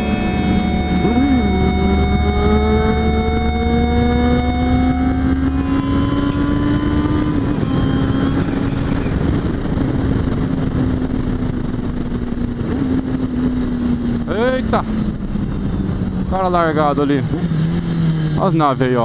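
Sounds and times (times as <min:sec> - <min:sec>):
wind noise: 0:00.0 - 0:18.3
motorcycle engine accelerating: 0:00.0 - 0:19.0.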